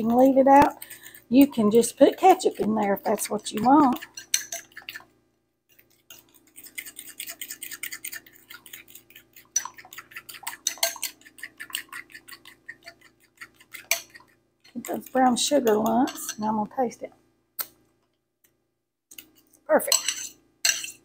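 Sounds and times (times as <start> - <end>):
spoon scraping glass bowl: 0.0 - 5.1, 5.7 - 16.6, 19.8 - 21.0.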